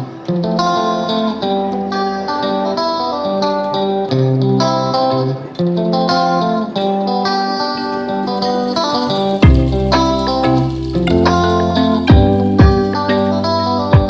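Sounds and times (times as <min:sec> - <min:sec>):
slow instrumental guitar music: 0:00.0 - 0:14.0.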